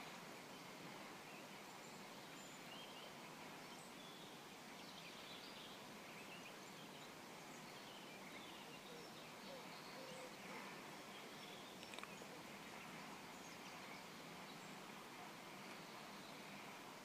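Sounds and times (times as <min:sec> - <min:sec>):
steady hiss: 0:00.0 - 0:17.0
distant bird calls: 0:01.3 - 0:17.0.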